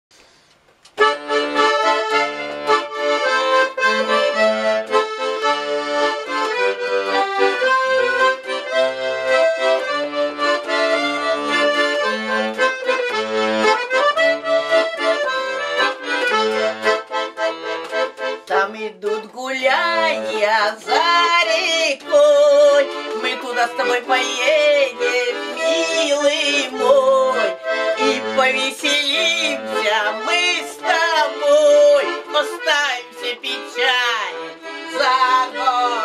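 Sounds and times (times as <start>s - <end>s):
button accordion playing folk melody: 0.9s - 36.0s.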